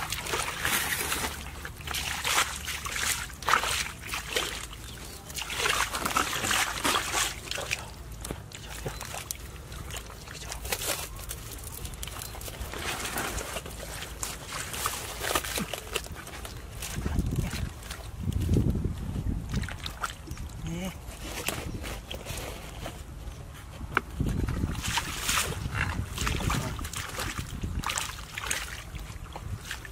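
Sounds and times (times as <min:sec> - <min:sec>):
bare feet squelching in mud: 0:00.0 - 0:23.1, 0:23.7 - 0:29.9.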